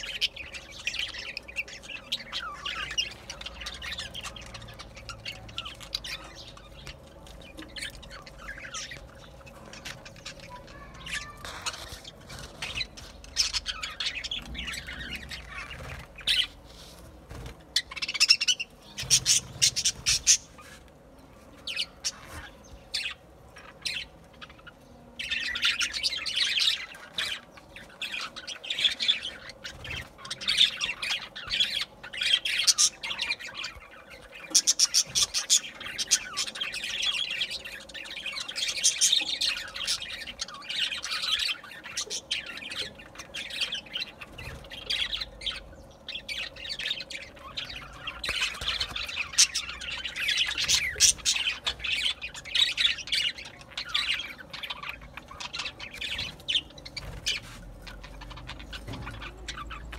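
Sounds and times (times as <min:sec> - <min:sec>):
budgerigars chattering: 0:00.0 - 0:16.6, 0:17.8 - 0:20.8, 0:21.7 - 0:59.9.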